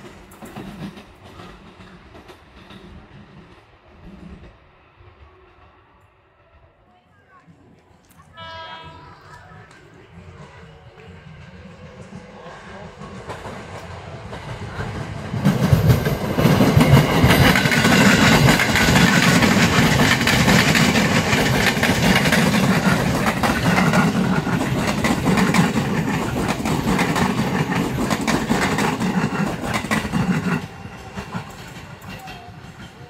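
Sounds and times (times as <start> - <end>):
electric train passing: 0.0 - 7.2, 7.8 - 33.0.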